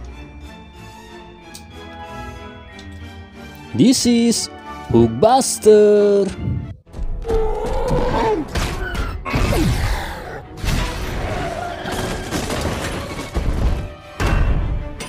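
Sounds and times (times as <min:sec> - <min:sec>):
film score music: 0:00.0 - 0:15.0.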